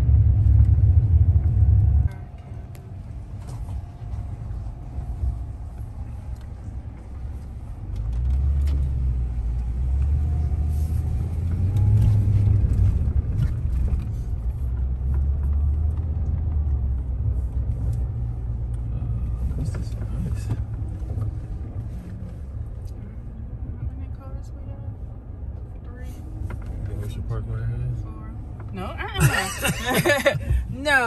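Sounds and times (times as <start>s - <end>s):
tyres on gravel road: 0.0s - 24.4s, 25.0s - 31.0s
car engine and tyres rumbling: 0.0s - 31.0s.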